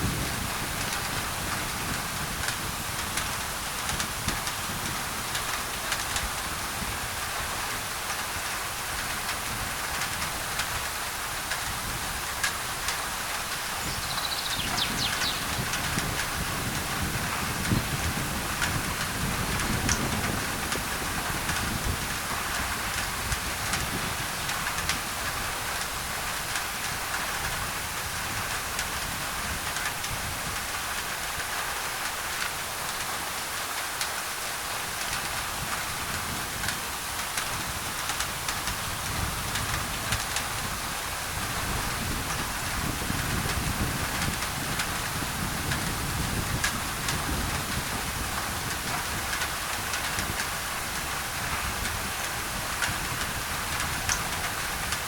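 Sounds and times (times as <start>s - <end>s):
rain on a tin roof: 0.0s - 55.0s
white noise hiss: 0.0s - 55.0s.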